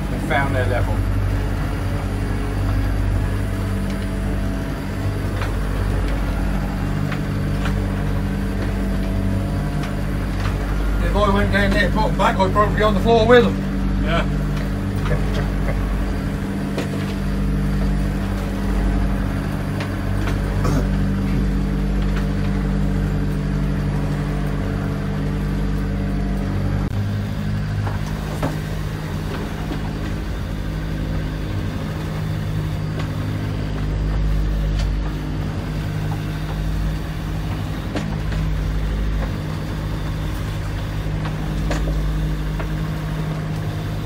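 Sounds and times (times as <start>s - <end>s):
boat engine running: 0.0s - 44.0s
boat knocking: 0.0s - 44.0s.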